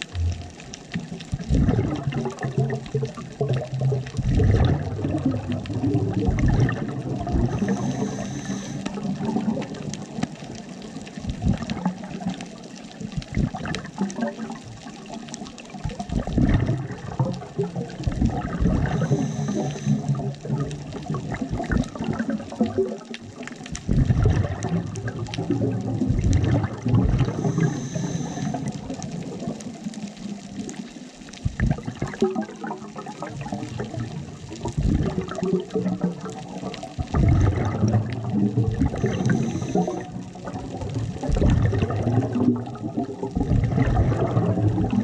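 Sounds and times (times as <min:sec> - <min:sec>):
exhaled air bubbling underwater: 0:00.0 - 0:45.0.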